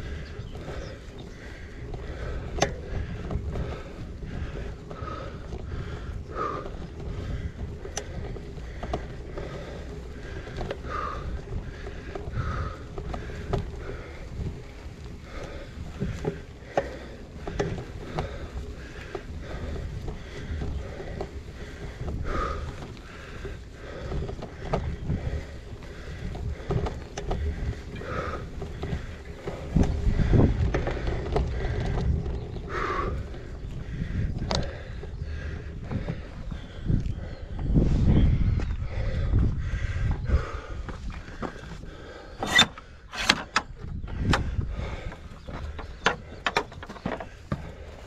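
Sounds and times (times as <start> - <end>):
bike rattling knocks: 0.0 - 37.0, 40.4 - 48.0
bike tyre noise: 0.0 - 48.0
wind rumbling on microphone: 0.0 - 48.0.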